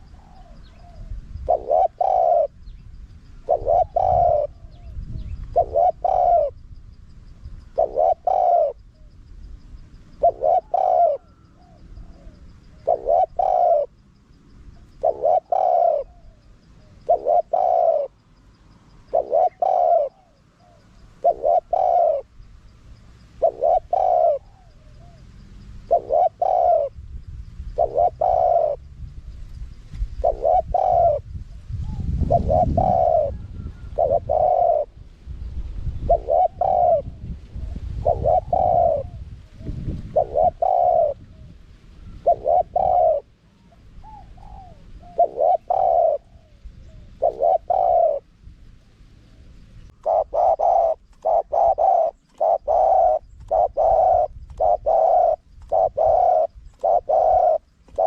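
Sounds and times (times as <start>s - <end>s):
dove cooing: 0.0s - 2.7s, 3.4s - 6.8s, 7.6s - 9.2s, 10.0s - 14.0s, 14.7s - 22.4s, 23.3s - 27.0s, 27.7s - 28.9s, 30.1s - 35.0s, 35.8s - 48.3s, 49.2s - 58.0s.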